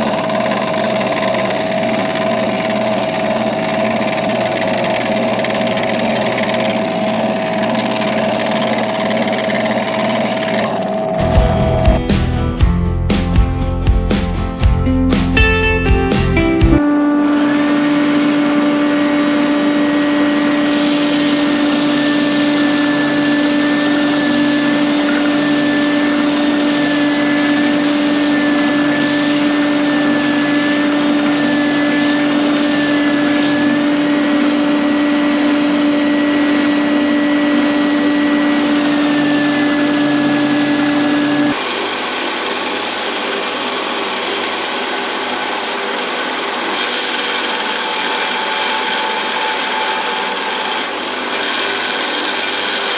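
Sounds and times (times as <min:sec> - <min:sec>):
electric saw cutting wood: 0:00.0 - 0:12.6, 0:18.2 - 0:52.9
rough machine noise: 0:00.0 - 0:16.8, 0:17.8 - 0:52.9.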